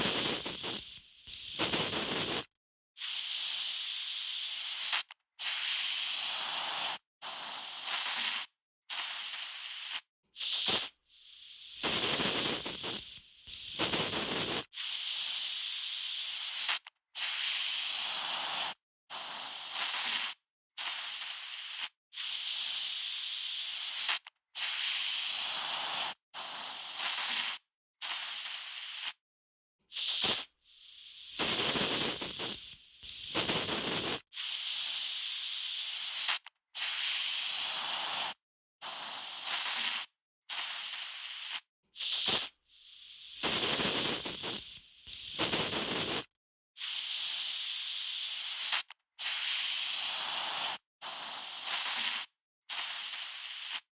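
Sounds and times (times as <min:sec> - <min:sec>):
aerosol spray can hissing: 0:00.0 - 0:29.2, 0:29.9 - 0:53.9.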